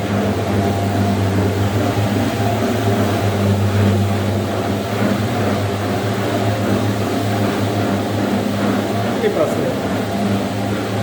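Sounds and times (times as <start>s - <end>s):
carpet cleaning machine humming: 0.0s - 11.0s.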